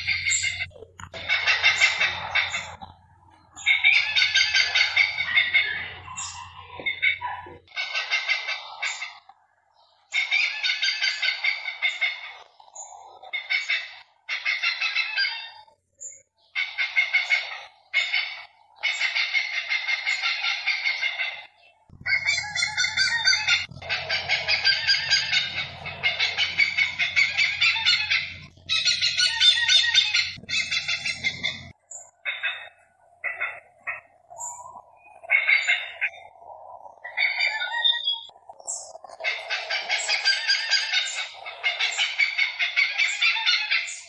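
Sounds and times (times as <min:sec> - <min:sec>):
hornbills calling: 0:00.0 - 0:15.8, 0:16.4 - 0:44.0.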